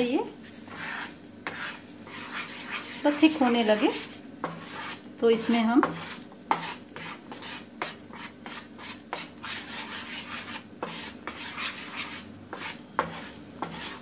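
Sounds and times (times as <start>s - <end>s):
wooden spatula scraping a pan: 0.0s - 14.0s
syrup bubbling and sizzling: 0.2s - 14.0s.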